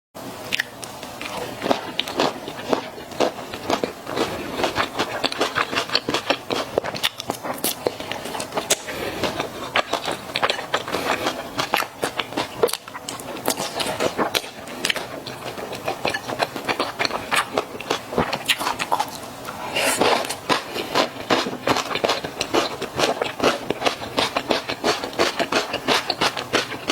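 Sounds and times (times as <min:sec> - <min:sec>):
chewing with wet smacks: 0:00.5 - 0:26.9.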